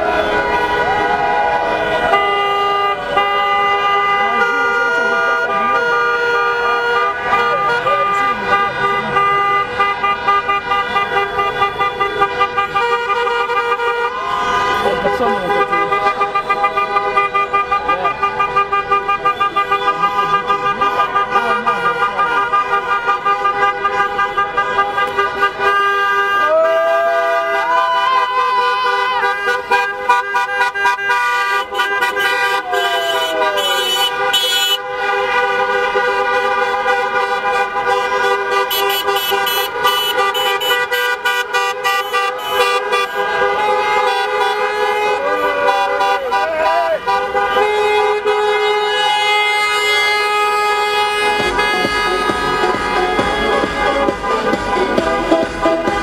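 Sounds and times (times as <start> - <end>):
many car horns honking: 0.0 - 56.0.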